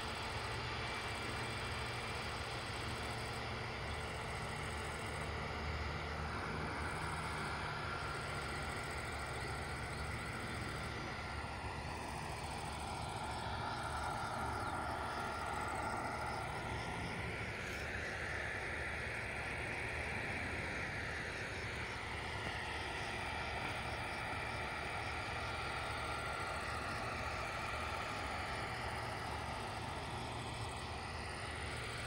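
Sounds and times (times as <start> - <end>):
distant combine harvesters droning: 0.0 - 32.0.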